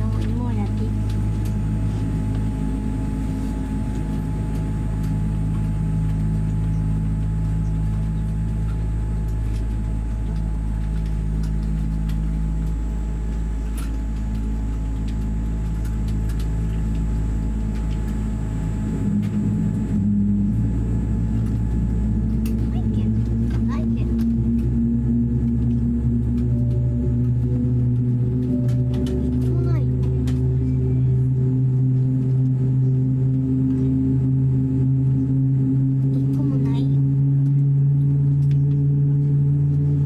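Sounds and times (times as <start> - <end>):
airliner cabin hum: 0.0 - 40.0
droning system tones: 0.0 - 40.0.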